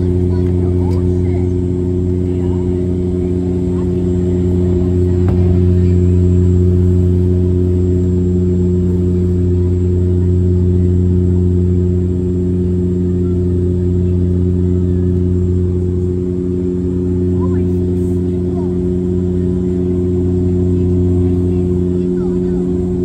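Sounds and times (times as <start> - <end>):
airplane propellers and engines humming: 0.0 - 23.0.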